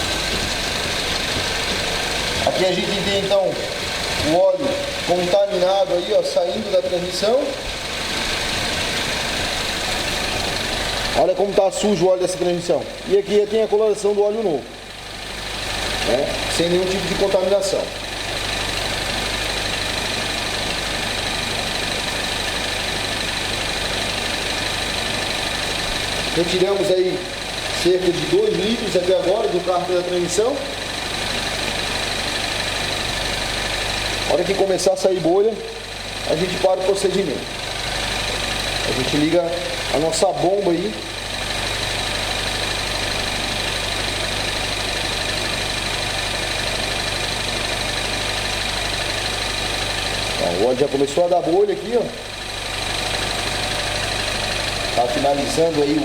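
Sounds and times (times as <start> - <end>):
car engine idling with whine: 0.0 - 56.0.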